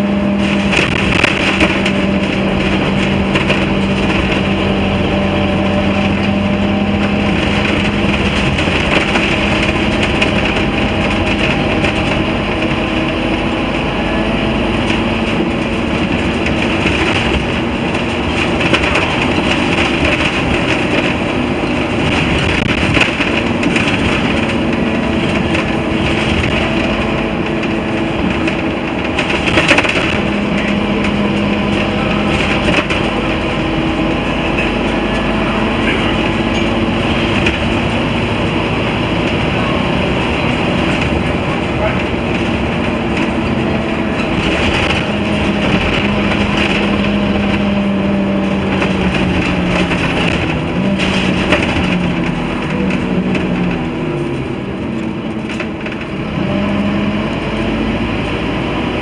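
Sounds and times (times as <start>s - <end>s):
bus diesel engine running: 0.0s - 59.0s
road noise: 0.0s - 59.0s
interior rattles: 0.4s - 56.7s.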